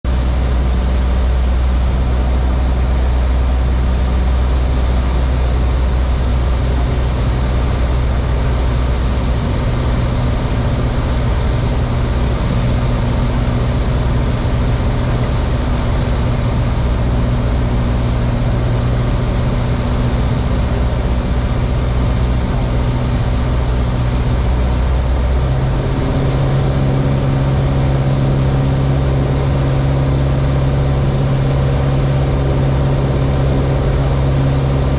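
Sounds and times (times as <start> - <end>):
propeller aircraft engine droning: 0.0 - 34.9.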